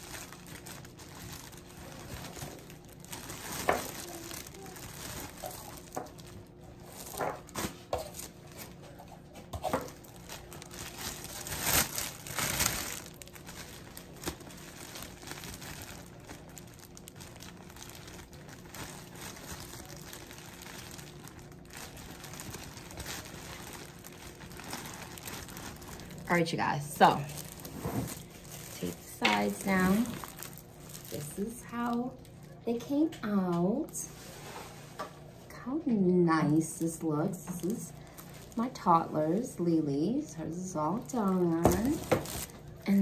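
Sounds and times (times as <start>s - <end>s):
cellophane crinkling: 0.0s - 32.9s, 36.4s - 43.0s.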